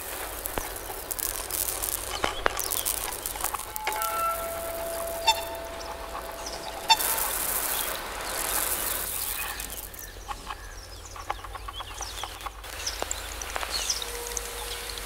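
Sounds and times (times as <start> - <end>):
hiss: 0.0 - 10.2, 12.6 - 15.0
small clicks and chirps: 0.0 - 15.0.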